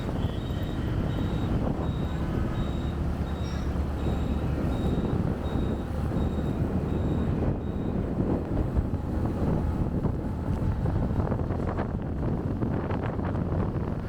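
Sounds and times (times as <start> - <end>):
motorcycle engine and road rumble: 0.0 - 14.0.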